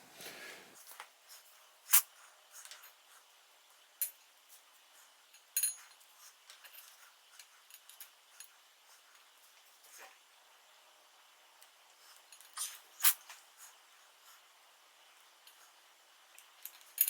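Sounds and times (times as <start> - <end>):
light ticks of small parts: 0.8 - 10.3, 11.5 - 17.0.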